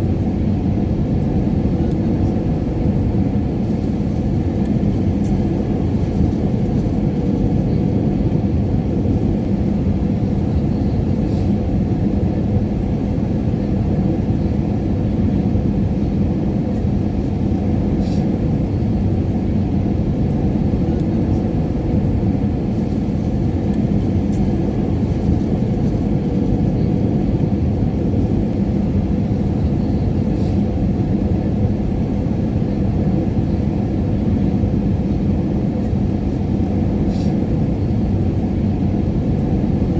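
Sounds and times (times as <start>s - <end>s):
airliner cabin drone: 0.0s - 39.9s
constant low hum: 0.0s - 39.9s.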